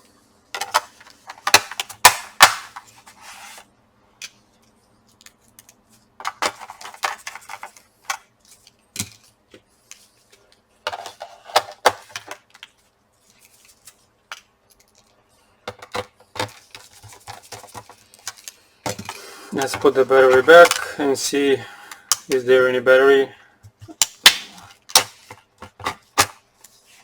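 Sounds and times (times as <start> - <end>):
laptop parts clicking and clattering: 0.6 - 3.0, 4.2 - 20.9, 23.7 - 26.8.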